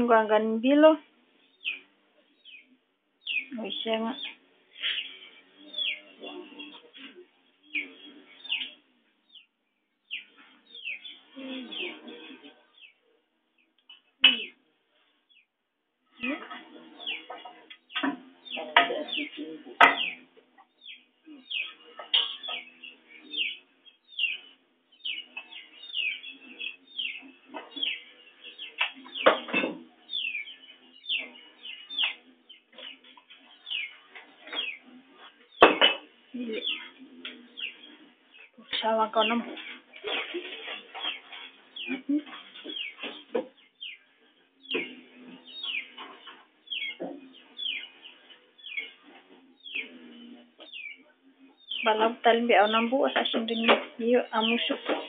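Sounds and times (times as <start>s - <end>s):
bird chirping: 1.4s - 13.0s, 16.1s - 55.0s.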